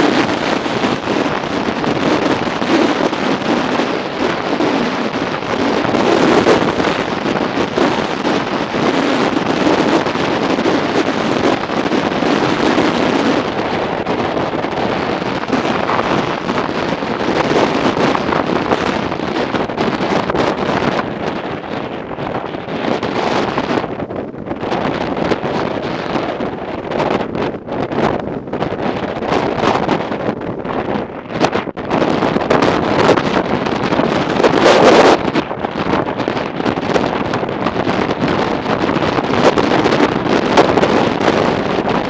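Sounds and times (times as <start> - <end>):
wind noise on microphone: 0.0 - 42.0.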